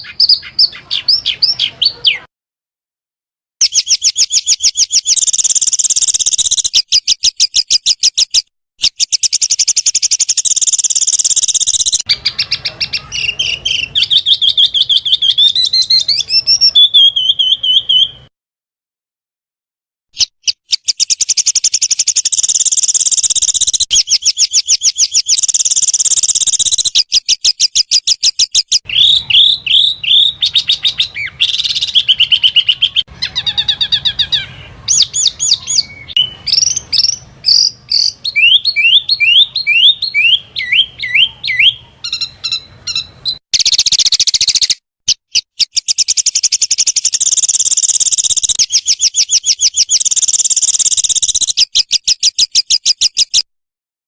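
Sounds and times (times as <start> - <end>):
songbirds chirping and trilling: 0.0 - 2.3, 3.6 - 18.3, 20.2 - 53.5.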